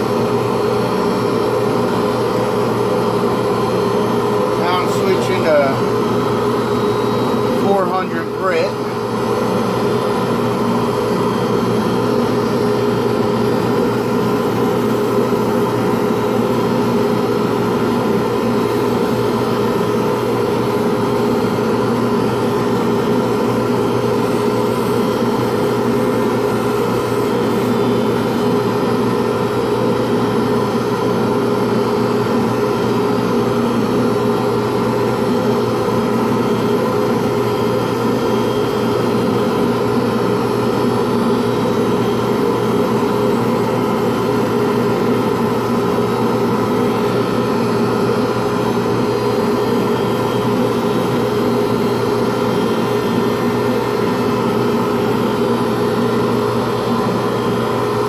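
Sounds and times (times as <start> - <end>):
lathe motor humming: 0.0 - 58.0.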